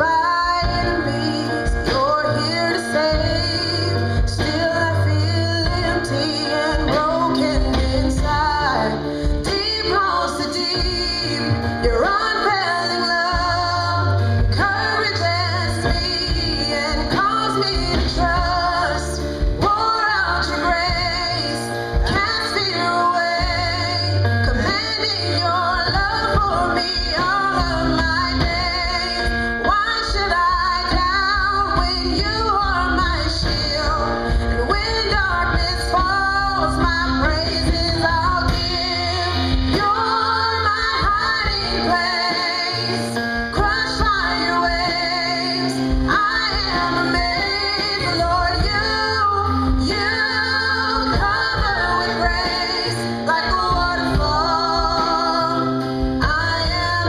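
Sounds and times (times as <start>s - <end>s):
instrumental backing: 0.0s - 57.0s
woman singing: 0.0s - 57.0s.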